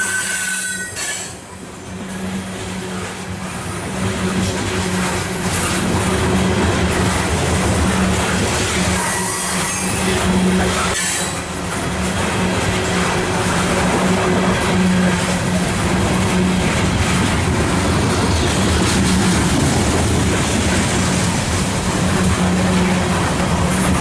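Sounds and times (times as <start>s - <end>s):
steel wheels on rails: 0.0s - 24.0s.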